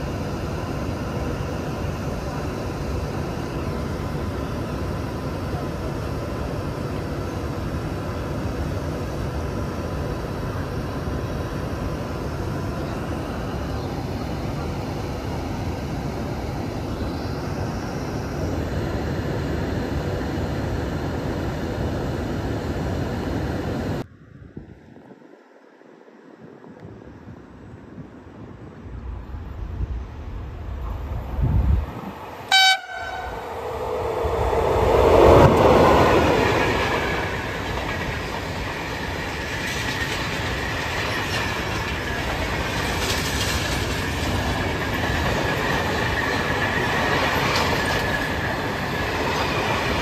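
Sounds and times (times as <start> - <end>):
electric locomotive droning: 0.0 - 25.0, 28.8 - 50.0
faint outdoor sound: 0.0 - 50.0.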